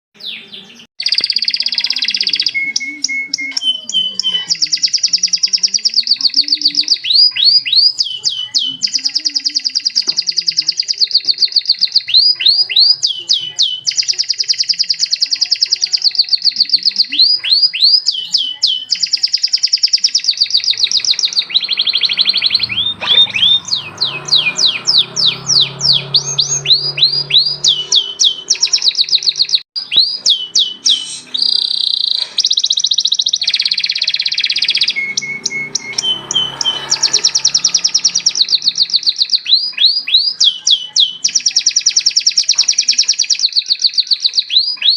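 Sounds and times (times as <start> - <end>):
canary singing trills: 0.2 - 44.9.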